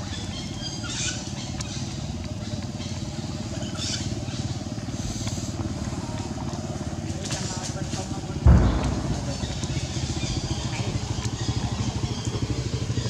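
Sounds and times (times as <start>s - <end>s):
small engine rumbling: 0.0s - 13.0s.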